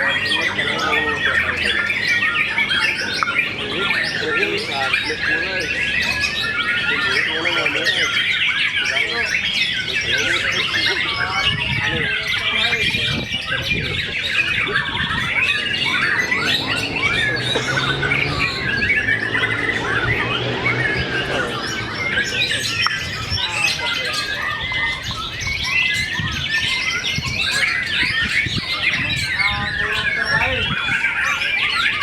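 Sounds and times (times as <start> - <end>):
songbirds chorus: 0.0 - 32.0.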